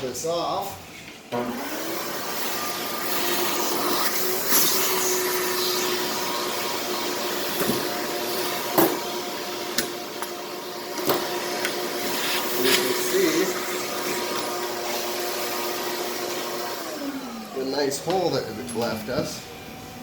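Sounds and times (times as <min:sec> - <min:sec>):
vacuum cleaner running: 0:00.1 - 0:20.0.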